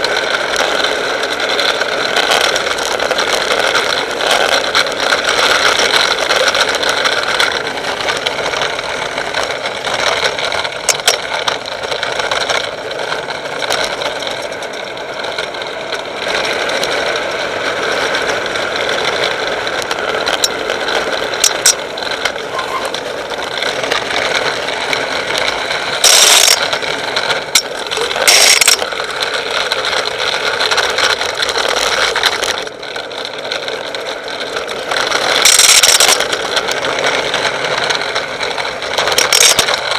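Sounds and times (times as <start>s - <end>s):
vehicle road noise and rattling: 0.0s - 39.9s.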